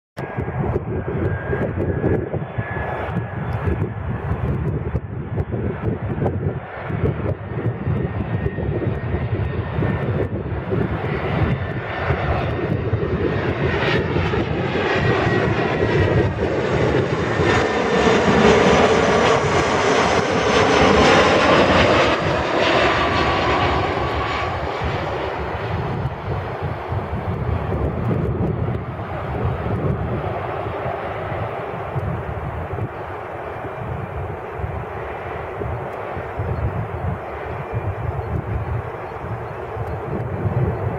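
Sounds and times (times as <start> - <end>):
jet airliner landing: 0.2 - 40.9.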